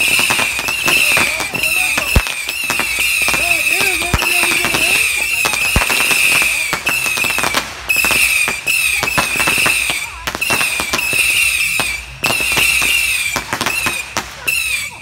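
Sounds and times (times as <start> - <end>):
fireworks popping and crackling: 0.0 - 15.0
high firework whine: 0.0 - 15.0.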